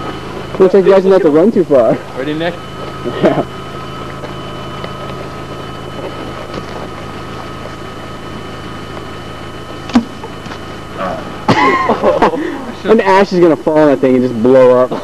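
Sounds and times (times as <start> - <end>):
car cabin hum: 0.0 - 12.1.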